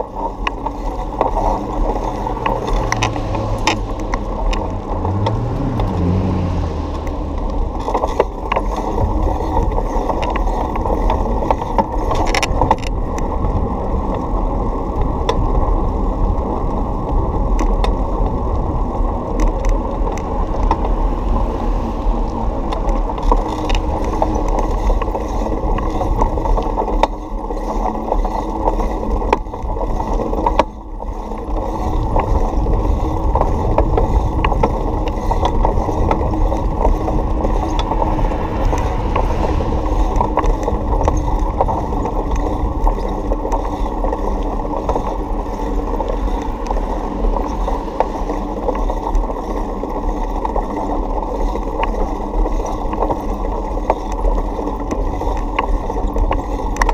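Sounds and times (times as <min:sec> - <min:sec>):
bicycle rumble on concrete: 0:00.0 - 0:56.9
bike rattles and clicks: 0:00.0 - 0:56.9.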